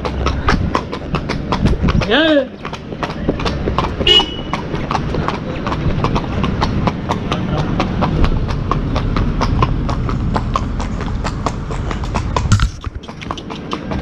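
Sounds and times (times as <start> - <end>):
horse hooves on pavement: 0.0 - 14.0.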